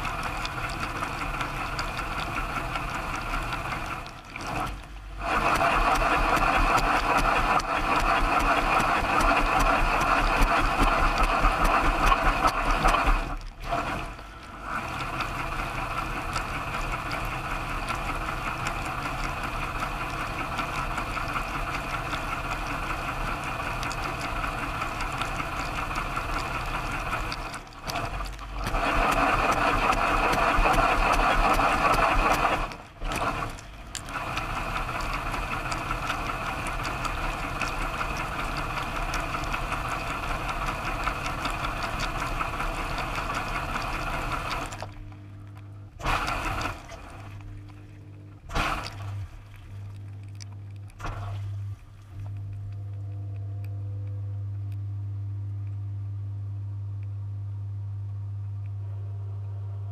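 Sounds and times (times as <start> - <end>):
dishwasher pump whirring: 0.0 - 49.5.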